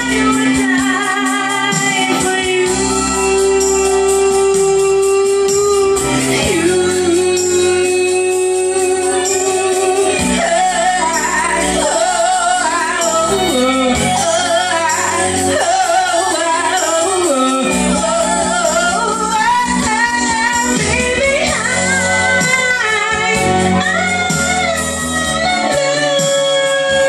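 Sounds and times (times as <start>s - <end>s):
instrumental backing music: 0.0s - 27.0s
woman singing with vibrato: 0.0s - 27.0s.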